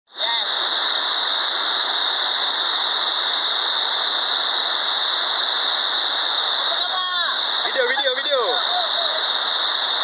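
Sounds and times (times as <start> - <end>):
waterfall rushing: 0.1 - 10.0.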